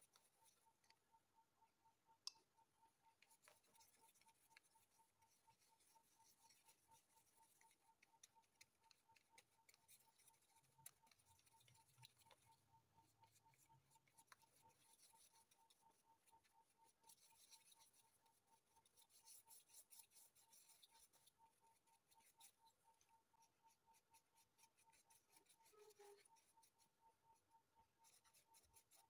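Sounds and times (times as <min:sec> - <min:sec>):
paintbrush scratching on paper: 0:00.0 - 0:01.0, 0:03.0 - 0:29.0.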